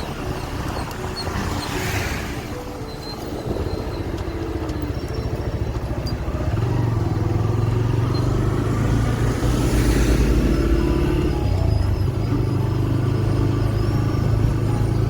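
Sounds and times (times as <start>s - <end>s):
wind and road noise: 0.0s - 15.0s
motorcycle engine running: 2.5s - 15.0s.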